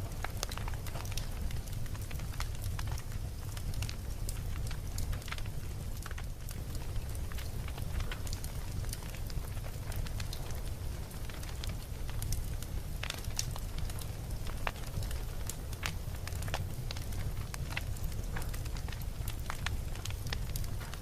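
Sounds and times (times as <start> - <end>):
burning wood crackling and popping: 0.0 - 21.0
campfire flames rumbling: 0.0 - 21.0.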